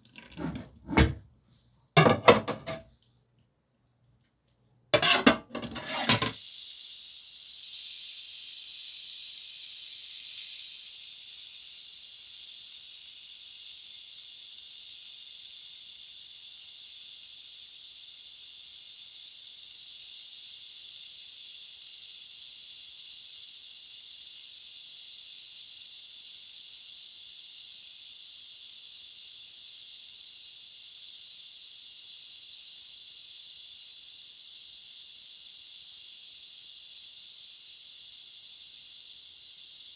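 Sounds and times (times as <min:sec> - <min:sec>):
steam hissing from a pot: 0:05.0 - 0:39.9.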